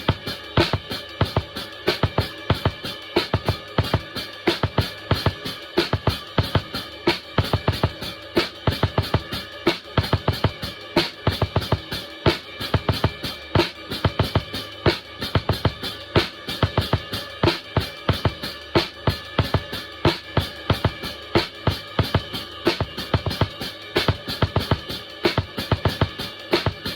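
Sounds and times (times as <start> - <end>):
drum kit groove: 0.0 - 26.9.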